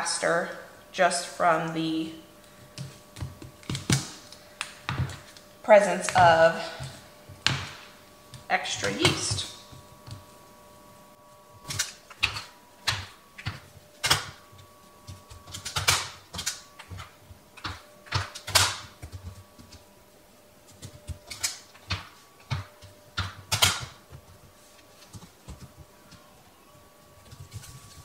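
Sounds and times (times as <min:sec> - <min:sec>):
hands working dough: 0:02.4 - 0:10.7, 0:11.3 - 0:19.9, 0:20.6 - 0:28.0.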